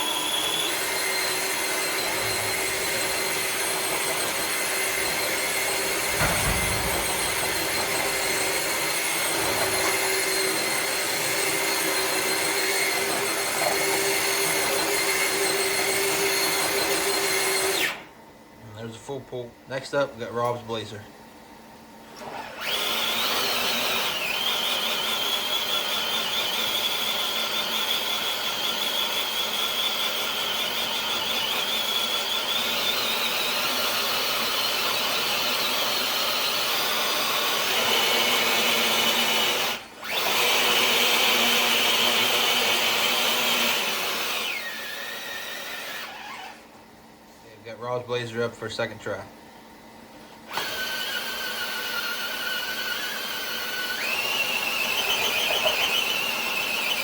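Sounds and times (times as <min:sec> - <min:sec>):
rc truck motor whining: 0:00.0 - 0:18.1, 0:22.1 - 0:46.7, 0:50.5 - 0:57.0.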